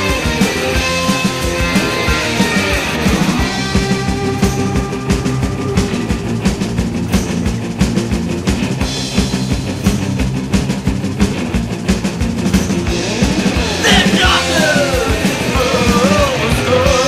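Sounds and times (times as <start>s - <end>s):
fast punk rock music: 0.0s - 17.0s.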